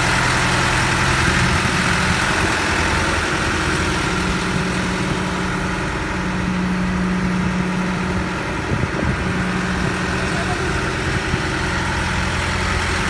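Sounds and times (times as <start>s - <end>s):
concrete pump engine humming: 0.0s - 13.0s.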